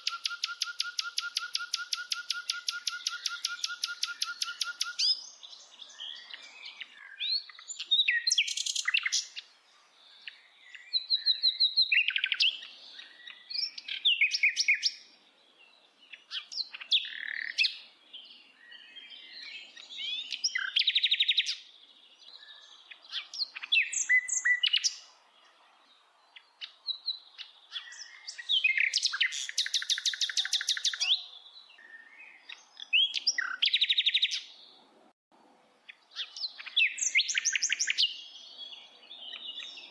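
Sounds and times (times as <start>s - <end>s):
bird singing: 0.0s - 34.8s, 35.8s - 39.9s.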